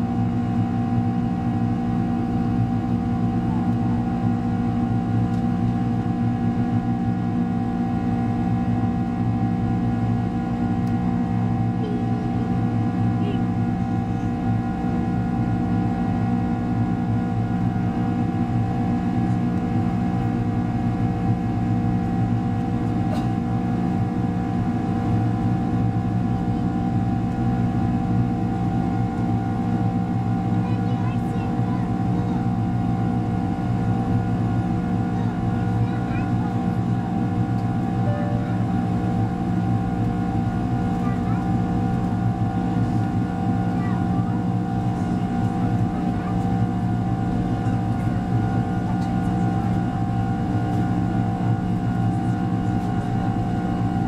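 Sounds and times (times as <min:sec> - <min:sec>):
jet engine cabin drone: 0:00.0 - 0:54.0.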